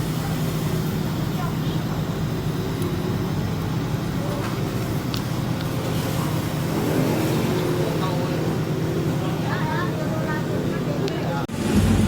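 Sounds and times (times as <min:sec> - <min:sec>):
heavy diesel engines droning: 0:00.0 - 0:12.0.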